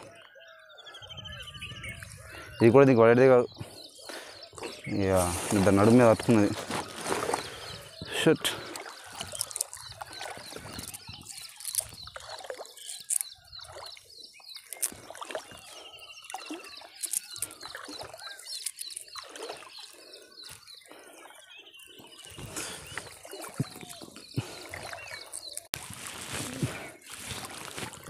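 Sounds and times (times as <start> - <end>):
water splashing and trickling: 4.1 - 28.0.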